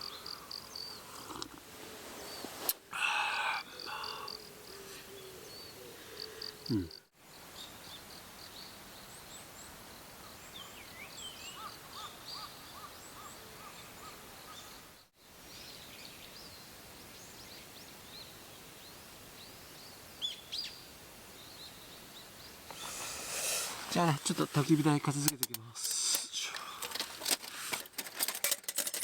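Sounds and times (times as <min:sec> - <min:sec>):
faint outdoor hiss: 0:00.0 - 0:29.0.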